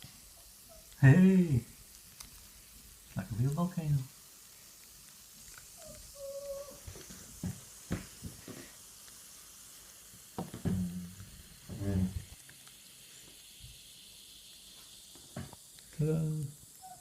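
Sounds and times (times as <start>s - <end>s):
foam fizzing: 0.0s - 17.0s.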